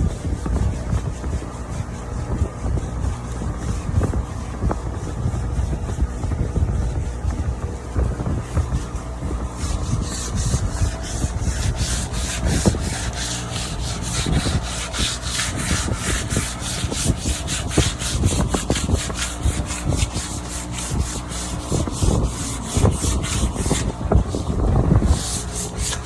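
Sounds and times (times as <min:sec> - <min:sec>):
sandpaper scratching wood: 0:00.0 - 0:26.0
steady low hum: 0:00.0 - 0:26.0.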